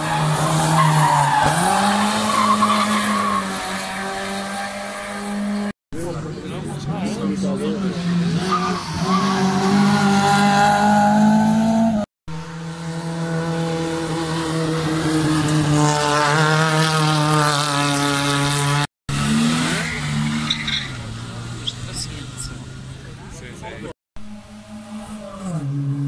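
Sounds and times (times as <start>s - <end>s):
rally car engines at high revs: 0.0s - 26.0s.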